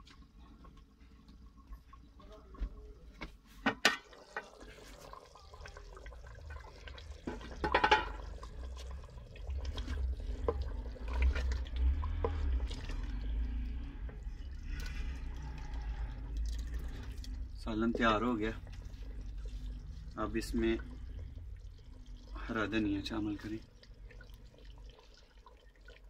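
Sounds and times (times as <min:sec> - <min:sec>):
spoon stirring sloshing liquid: 0:00.0 - 0:26.0.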